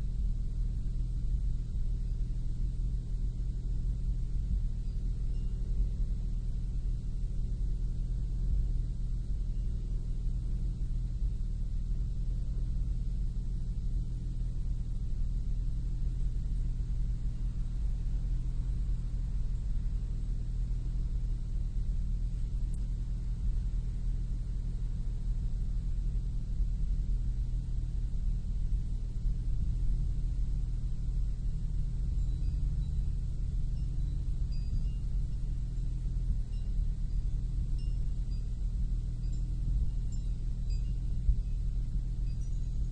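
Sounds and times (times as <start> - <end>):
car engine idling with misfire: 0.0 - 42.9.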